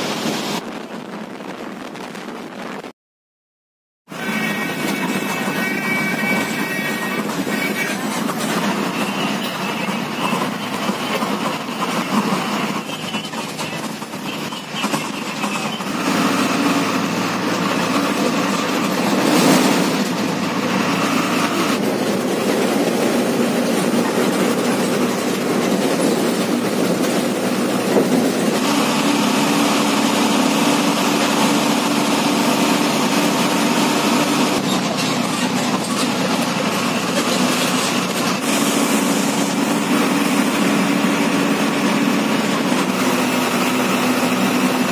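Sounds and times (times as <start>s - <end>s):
bus diesel engine running: 0.0s - 2.9s, 4.1s - 44.9s.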